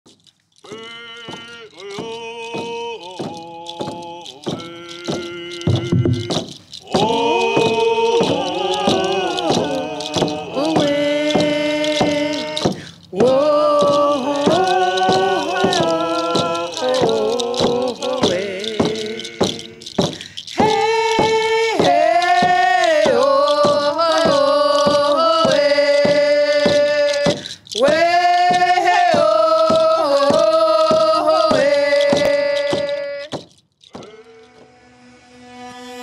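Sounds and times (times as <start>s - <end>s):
man singing: 0.6s - 34.8s
steady beat: 0.7s - 33.4s.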